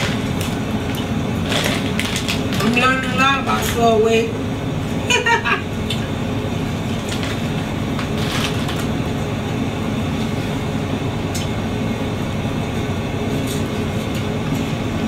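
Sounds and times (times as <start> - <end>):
truck rumble inside cab: 0.0 - 15.0.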